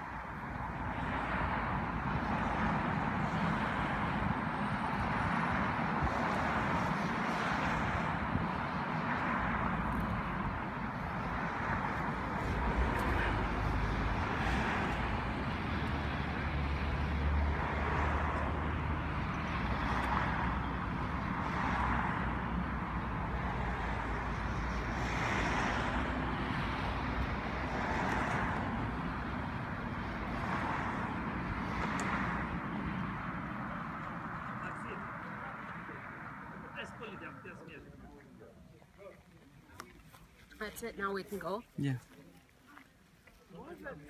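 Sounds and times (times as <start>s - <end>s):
cars passing by: 0.0s - 44.0s.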